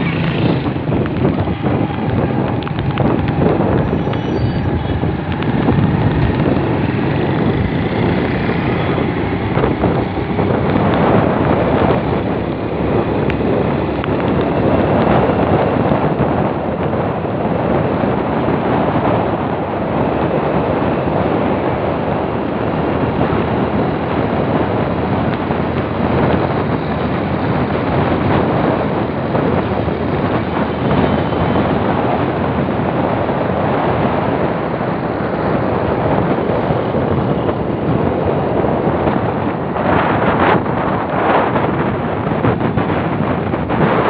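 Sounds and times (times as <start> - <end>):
vehicle travel noise: 0.0 - 44.0
wind buffeting microphone: 0.0 - 44.0.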